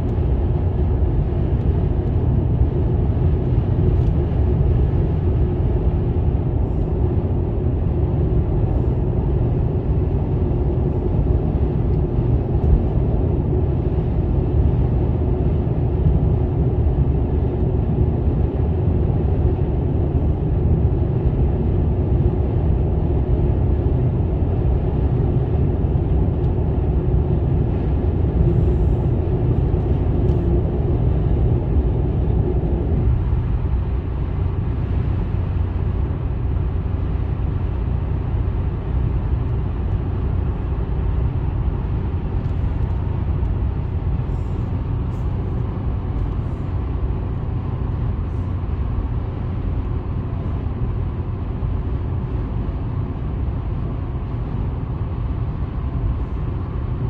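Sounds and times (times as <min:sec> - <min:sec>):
low rumble: 0:00.0 - 0:57.0
road and tyre noise in car cabin: 0:00.0 - 0:57.0.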